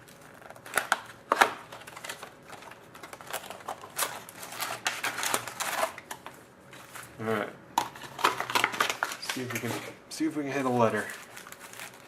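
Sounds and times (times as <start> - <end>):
cardboard and plastic wrap crinkling: 0.0 - 7.2, 7.8 - 12.0.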